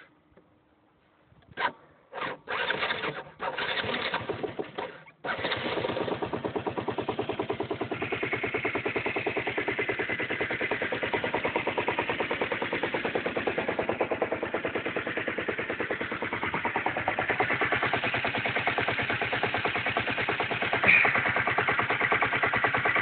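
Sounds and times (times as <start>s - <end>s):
scooter engine running at low revs: 1.6s - 23.0s.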